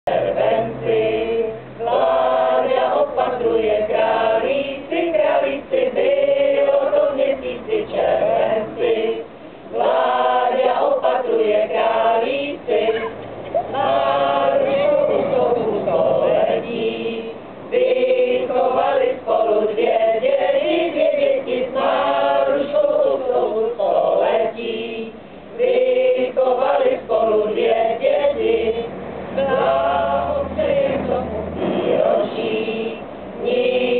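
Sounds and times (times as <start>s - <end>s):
group singing together: 0.0s - 33.9s.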